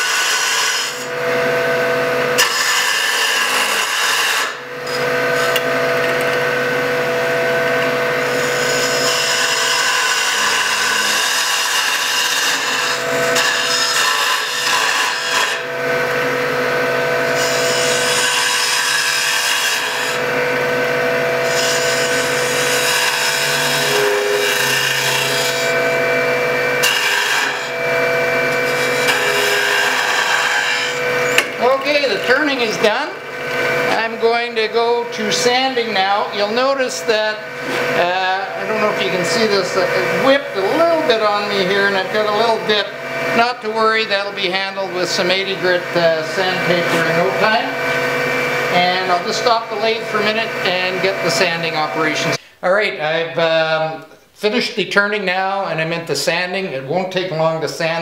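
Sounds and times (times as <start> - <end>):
cutter scraping spinning wood: 0.0 - 52.4
wood lathe motor hum: 0.0 - 52.4.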